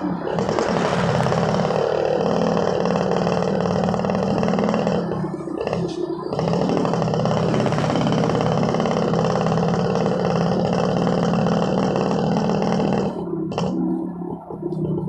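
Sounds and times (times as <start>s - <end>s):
two-stroke engine running: 0.0s - 15.0s.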